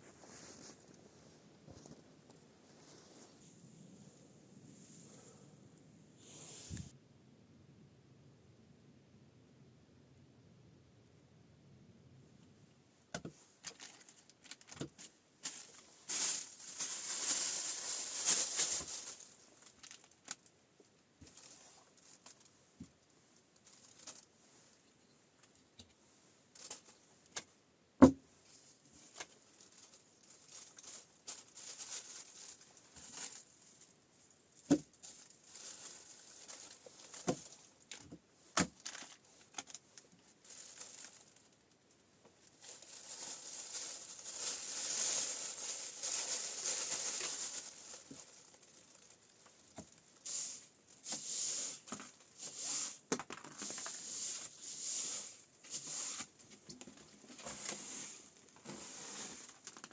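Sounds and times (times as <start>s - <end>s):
rustling and crinkling: 0.0s - 6.9s, 13.1s - 27.6s, 28.3s - 59.9s.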